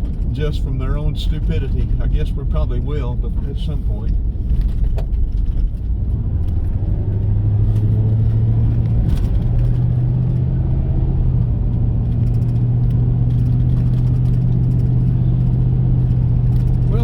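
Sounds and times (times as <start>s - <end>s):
road rumble: 0.0s - 17.0s
vehicle engine drone: 0.0s - 17.0s.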